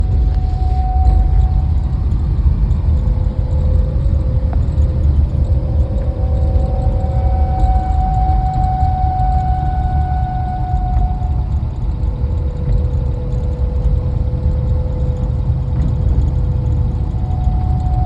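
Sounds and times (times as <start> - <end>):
car rumbling along road: 0.0 - 18.0
thin steady whine: 0.0 - 18.0.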